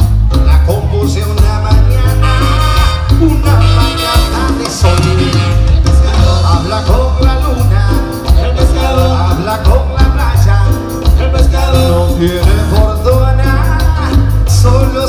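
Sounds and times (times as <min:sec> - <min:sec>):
live cumbia band music: 0:00.0 - 0:15.0.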